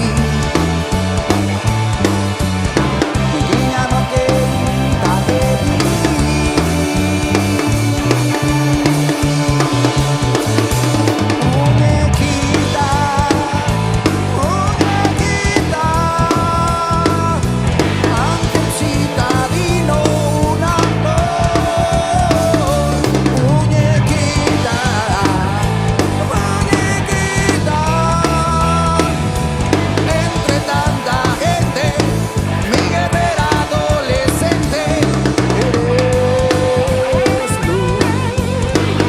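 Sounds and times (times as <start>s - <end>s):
pitch-bending melody line: 0.0s - 15.4s, 17.9s - 39.0s
rock band playing: 0.0s - 39.0s.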